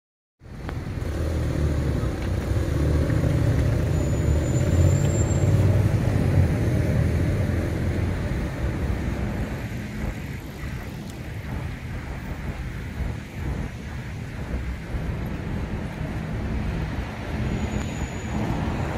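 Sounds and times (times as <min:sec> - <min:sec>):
vehicle engine running: 0:00.5 - 0:18.9.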